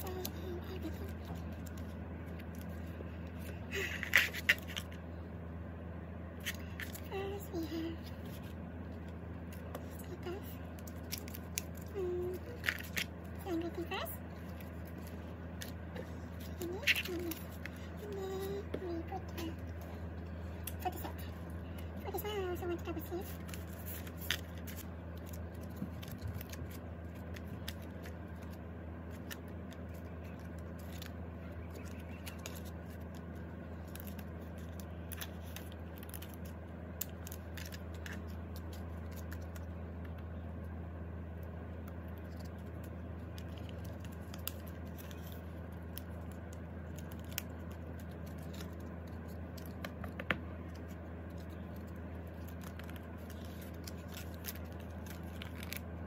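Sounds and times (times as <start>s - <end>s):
plastic sleeves crinkling: 0.0s - 5.0s, 6.4s - 40.2s, 41.2s - 56.0s
steady low hum: 0.0s - 56.0s.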